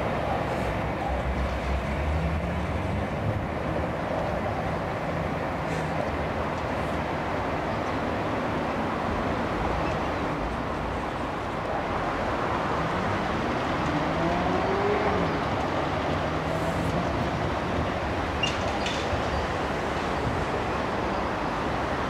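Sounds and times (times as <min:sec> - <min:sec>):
train rumbling over track: 0:00.0 - 0:22.0.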